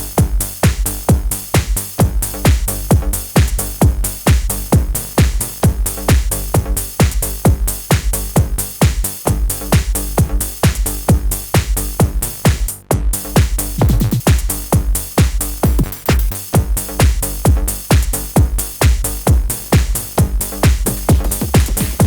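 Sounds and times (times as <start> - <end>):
electronic house music: 0.0 - 22.0
kick-drum thumps: 0.0 - 22.0.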